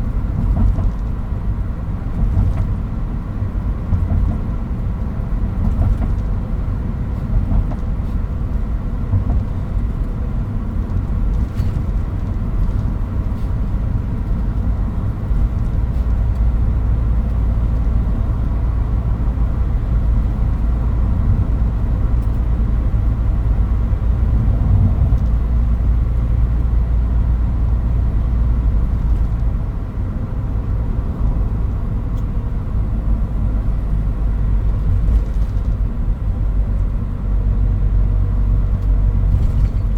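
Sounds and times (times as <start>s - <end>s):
pickup engine and road rumble: 0.0s - 39.9s.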